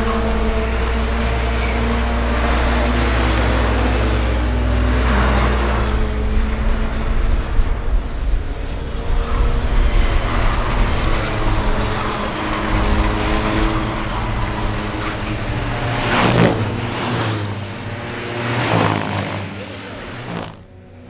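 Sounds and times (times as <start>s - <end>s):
car passing close by: 0.0s - 21.0s
racing car engines: 0.0s - 21.0s.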